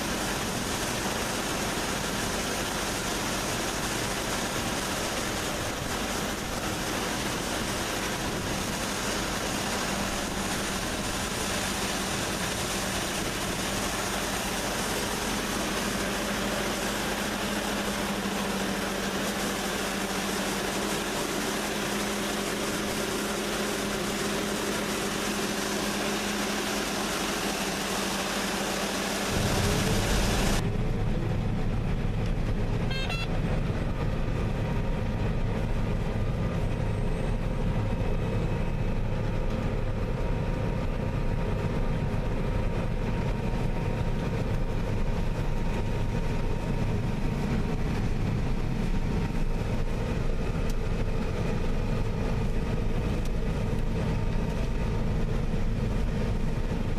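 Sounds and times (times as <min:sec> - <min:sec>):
combine harvester engine rumble: 0:00.0 - 0:56.9.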